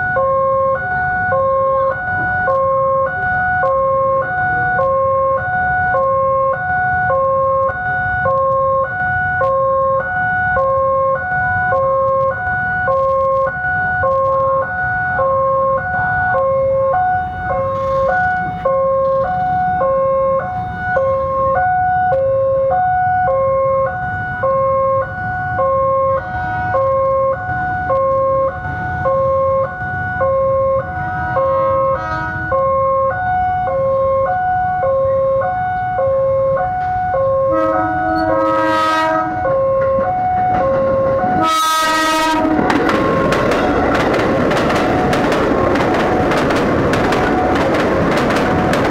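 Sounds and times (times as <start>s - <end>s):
level crossing warning alarm: 0.0s - 48.9s.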